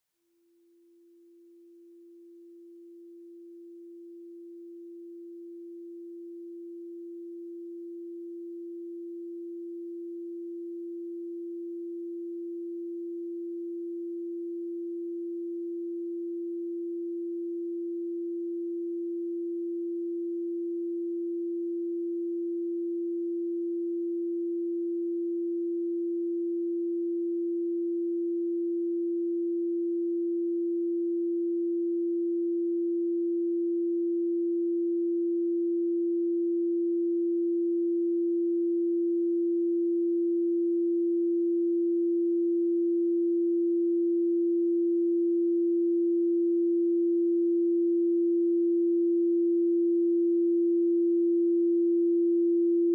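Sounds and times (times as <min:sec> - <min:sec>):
electronic sine tone: 0:01.0 - 0:52.9.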